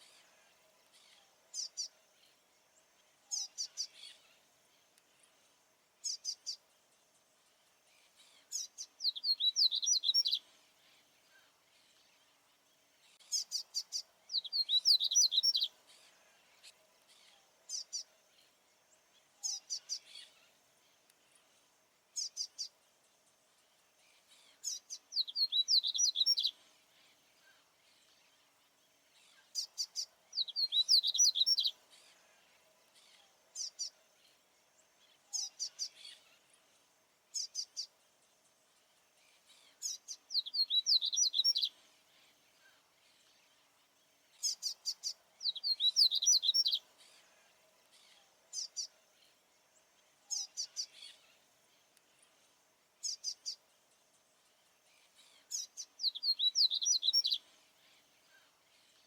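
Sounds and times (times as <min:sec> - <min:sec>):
bird singing warbling song: 0:00.0 - 0:59.0.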